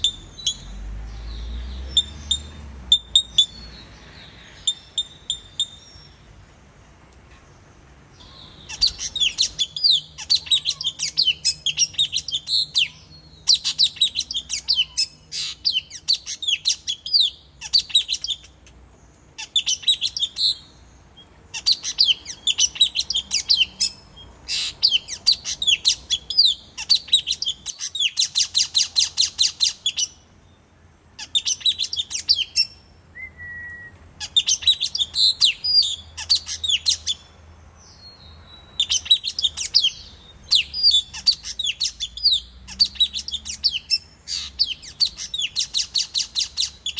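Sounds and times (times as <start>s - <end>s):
parrots chirping: 0.0s - 6.3s, 8.1s - 30.3s, 31.1s - 32.9s, 34.2s - 46.9s.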